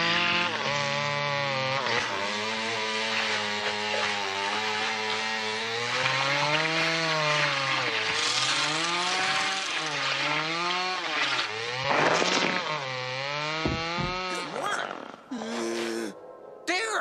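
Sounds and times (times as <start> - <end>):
chainsaw revving and cutting: 0.0 - 15.3.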